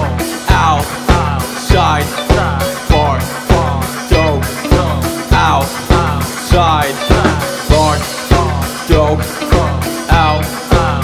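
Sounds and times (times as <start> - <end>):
bass guitar: 0.0 - 11.0
drum kit beat: 0.0 - 11.0
electric guitar: 0.0 - 11.0
man singing: 0.0 - 11.0.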